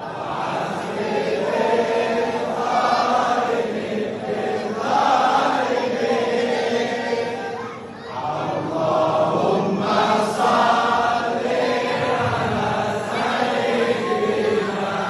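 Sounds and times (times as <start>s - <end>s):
group chanting devotional praise: 0.0s - 15.0s.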